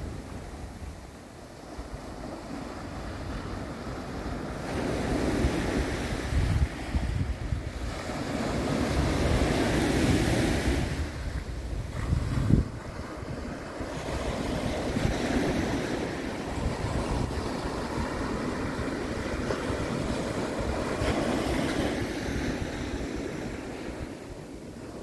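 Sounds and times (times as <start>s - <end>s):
small waves breaking on beach: 0.0s - 25.0s
wind rumbling on microphone: 0.0s - 25.0s.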